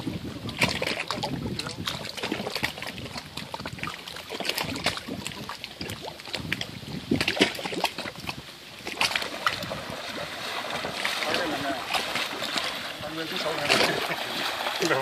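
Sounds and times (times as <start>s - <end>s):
water sloshing around legs: 0.0s - 15.0s.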